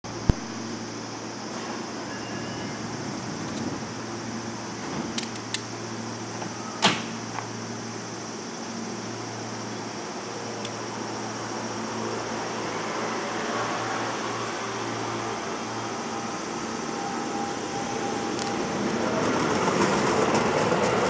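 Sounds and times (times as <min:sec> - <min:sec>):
electric train humming: 0:00.1 - 0:21.0
high hiss: 0:00.1 - 0:21.0.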